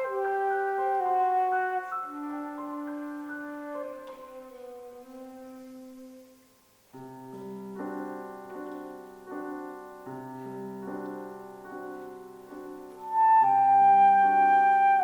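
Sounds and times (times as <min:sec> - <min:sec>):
flute melody: 0:00.0 - 0:09.6, 0:10.4 - 0:15.0.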